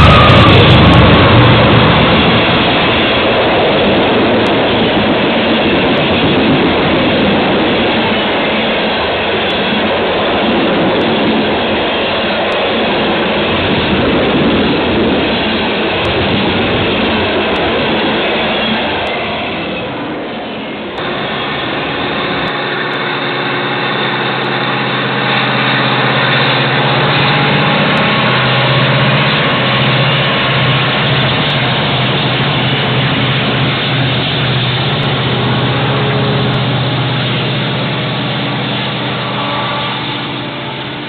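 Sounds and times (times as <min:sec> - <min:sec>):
train rolling past on rails: 0:00.0 - 0:41.0.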